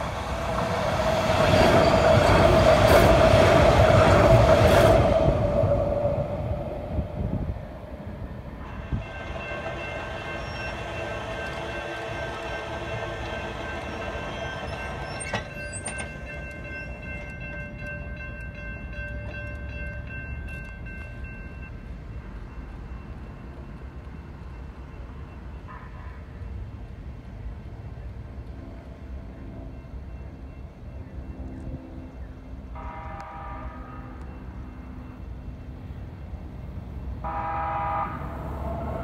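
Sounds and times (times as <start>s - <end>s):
train electric whine: 0.0s - 27.0s, 27.8s - 39.0s
train rumble: 0.0s - 39.0s.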